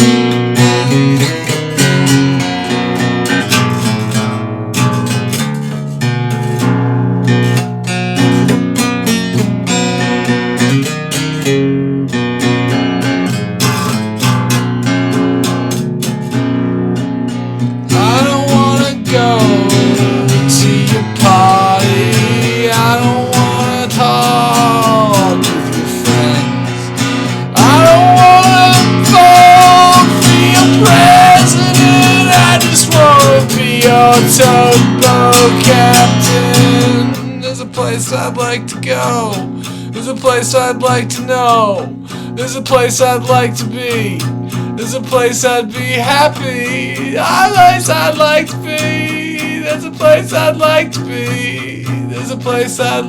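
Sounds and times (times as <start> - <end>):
sliding lead guitar melody: 0.0 - 53.0
strummed guitar: 0.0 - 53.0.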